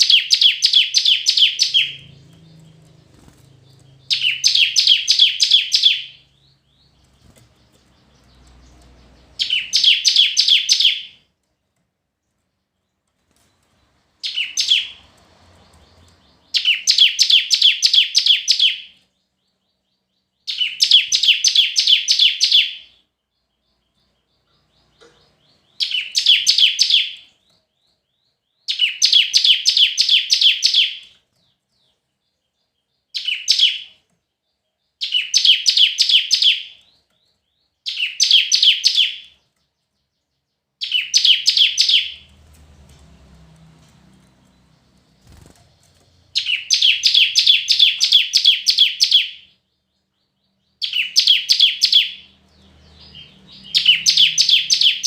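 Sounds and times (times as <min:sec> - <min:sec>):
bird singing rapid high chirps: 0:00.0 - 0:11.4, 0:12.6 - 0:55.0.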